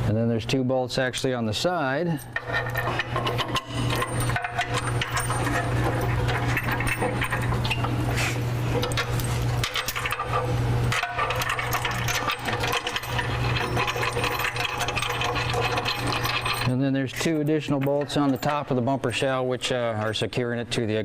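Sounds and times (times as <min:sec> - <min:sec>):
steady low hum: 0:00.0 - 0:21.0
metal bolts and tools clinking: 0:02.2 - 0:08.0, 0:08.8 - 0:20.3.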